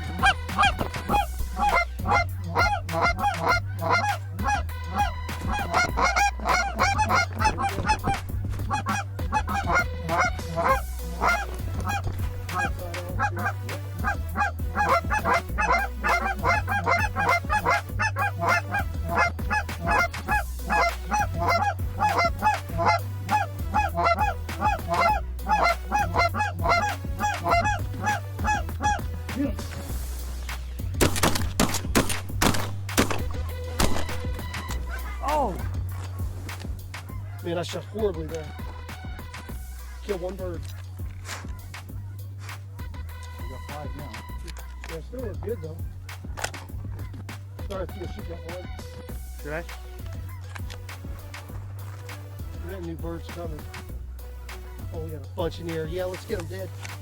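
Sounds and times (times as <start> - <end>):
flock of geese honking: 0.0 - 30.6, 33.1 - 54.8.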